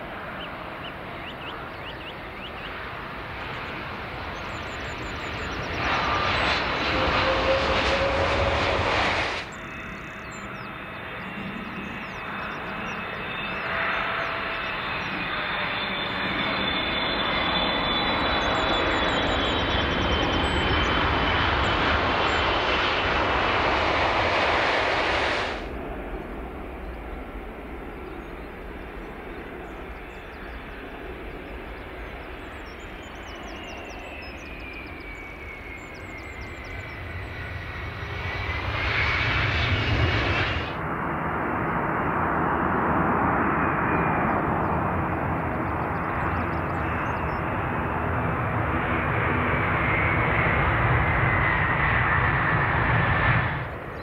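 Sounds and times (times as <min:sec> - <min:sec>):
jet airliner landing roar: 0:00.0 - 0:54.0.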